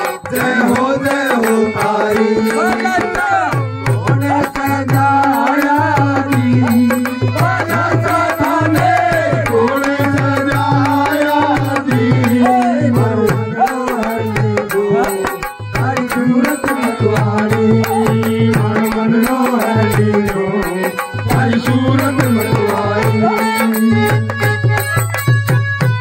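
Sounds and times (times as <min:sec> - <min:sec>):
devotional song with fast drums: 0:00.0 - 0:26.0
fast steady drum rhythm: 0:00.0 - 0:26.0.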